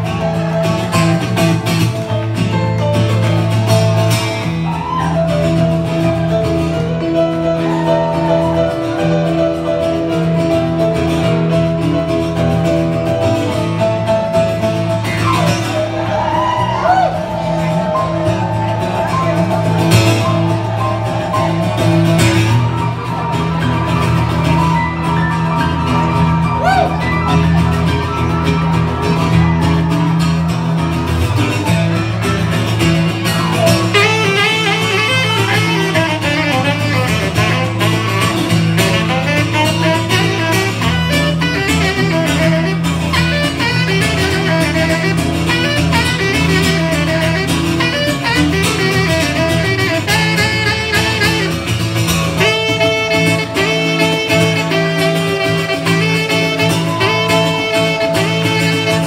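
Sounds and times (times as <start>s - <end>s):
acoustic guitar: 0.0s - 59.0s
electric keyboard: 0.0s - 59.0s
saxophone: 0.0s - 59.0s.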